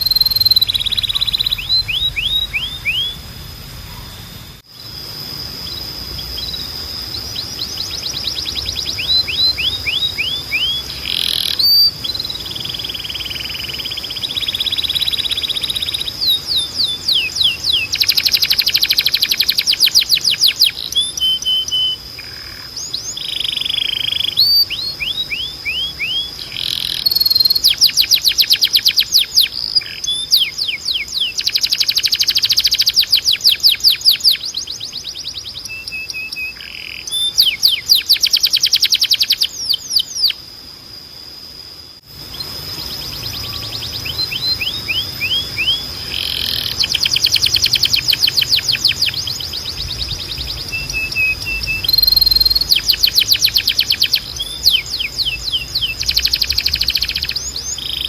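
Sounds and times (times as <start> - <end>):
canary singing trills: 0.0 - 40.9, 42.0 - 58.0
thin steady high tone: 0.0 - 58.0.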